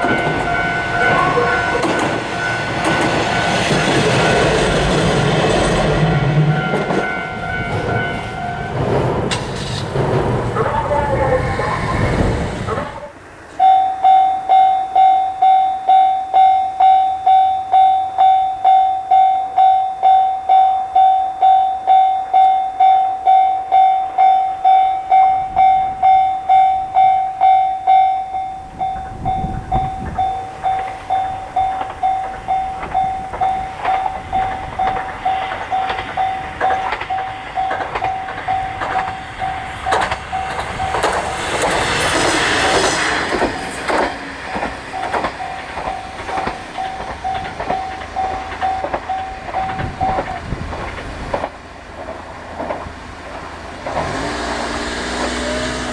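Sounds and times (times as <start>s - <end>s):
level crossing warning bell: 0.0s - 9.4s, 13.0s - 42.1s, 43.4s - 51.6s
train rumble: 0.0s - 55.9s.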